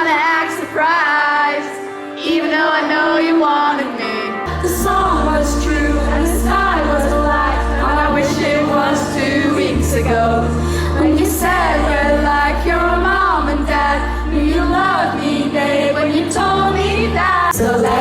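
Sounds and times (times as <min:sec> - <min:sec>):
crowd singing along: 0:00.0 - 0:18.0
woman singing: 0:00.0 - 0:18.0.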